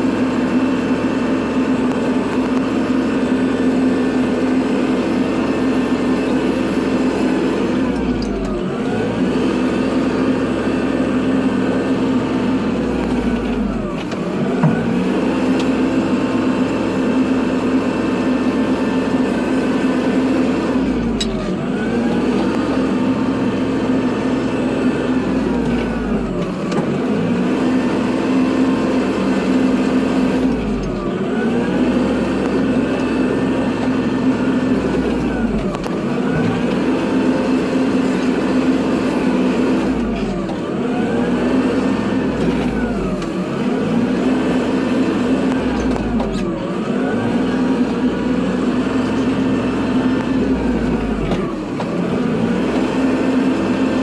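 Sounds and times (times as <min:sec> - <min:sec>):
deep engine pulse: 0:00.0 - 0:54.0
tractor diesel engine running: 0:00.0 - 0:54.0.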